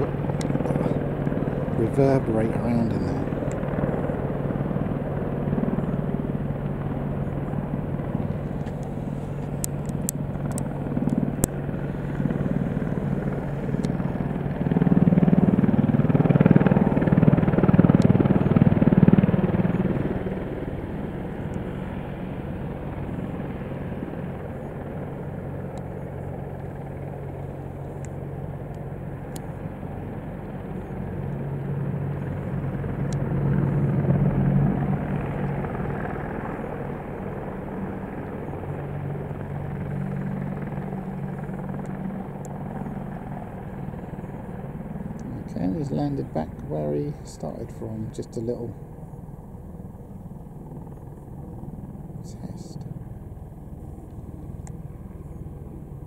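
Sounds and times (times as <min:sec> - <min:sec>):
helicopter drone: 0:00.0 - 0:56.0.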